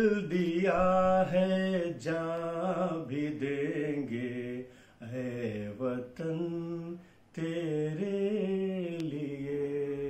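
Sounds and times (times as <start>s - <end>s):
man singing unaccompanied: 0.0s - 10.0s.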